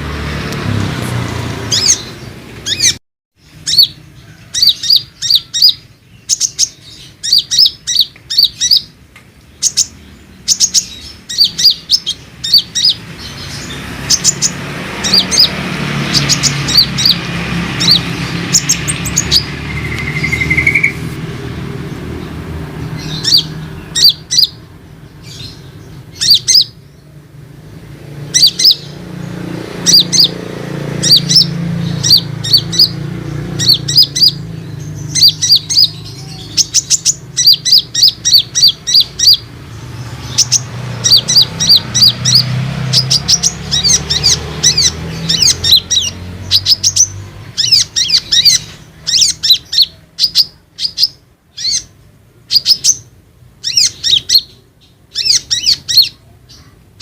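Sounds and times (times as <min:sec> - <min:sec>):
bird singing high sharp chirps: 0:01.4 - 0:56.7.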